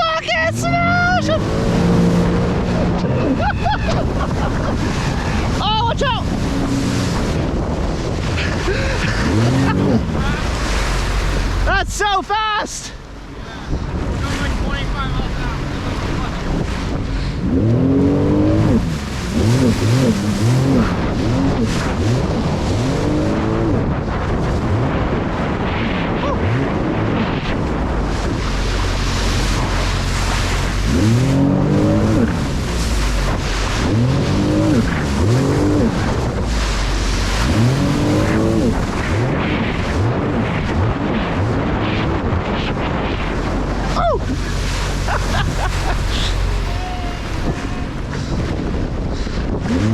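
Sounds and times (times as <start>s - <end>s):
jet ski engine: 0.0s - 49.9s
wind and water rush: 0.0s - 49.9s.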